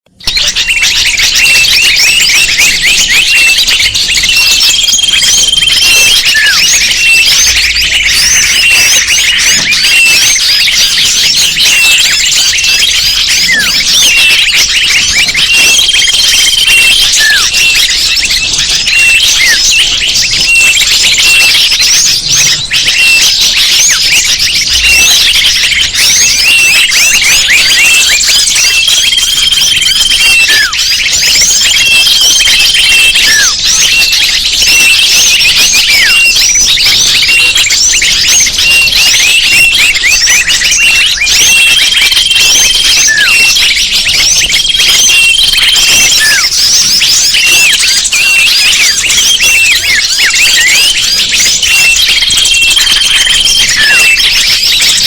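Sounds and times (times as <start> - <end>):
birds chirping and twittering: 0.0 - 55.0
held whistle: 0.0 - 55.0.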